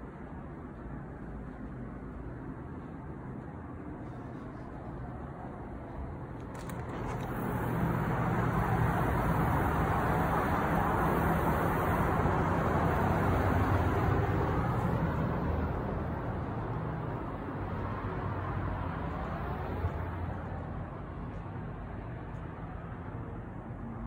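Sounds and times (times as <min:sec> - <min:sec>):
outdoor background hum: 0:00.0 - 0:24.0.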